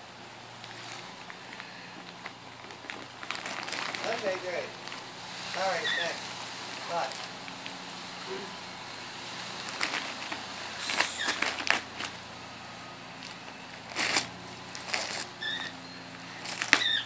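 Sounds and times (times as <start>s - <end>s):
wrapping paper crinkling and tearing: 0.6s - 17.0s.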